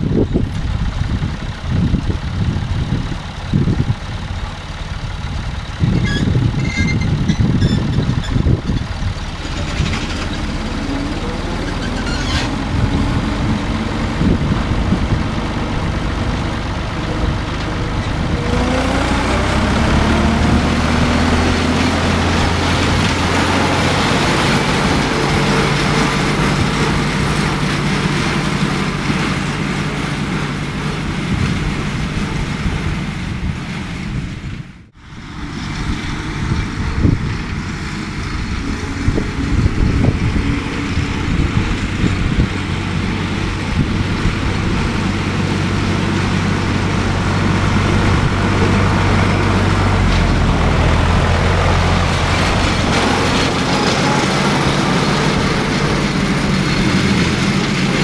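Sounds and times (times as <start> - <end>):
tractor diesel engine revving: 0.0 - 58.0
drum mower mowing: 1.5 - 34.2, 35.0 - 58.0.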